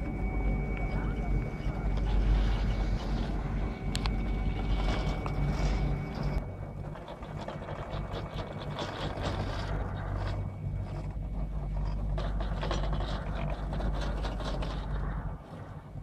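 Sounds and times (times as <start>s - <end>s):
haul rope rumbling over wheels: 0.0s - 16.0s.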